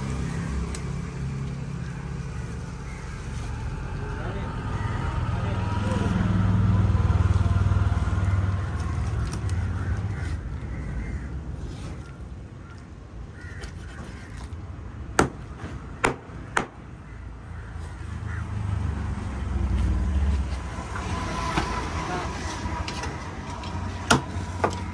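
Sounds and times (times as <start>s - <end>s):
low vehicle engine rumble: 0.0s - 24.9s.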